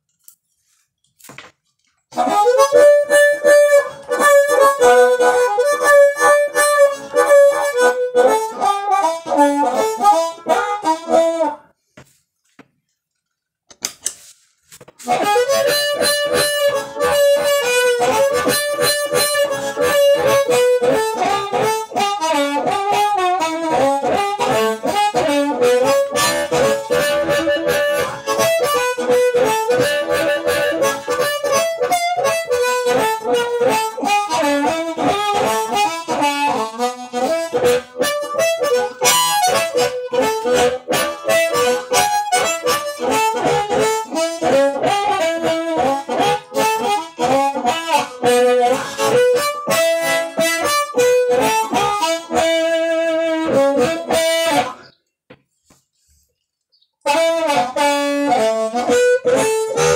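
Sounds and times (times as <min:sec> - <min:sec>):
distorted harmonica melody: 0:02.1 - 0:11.9, 0:14.8 - 0:56.3, 0:57.0 - 0:59.9.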